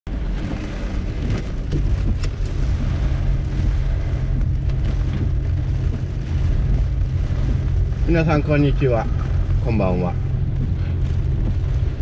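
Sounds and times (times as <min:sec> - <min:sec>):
van road and engine rumble: 0:00.0 - 0:12.0
wind and rain: 0:00.1 - 0:12.0.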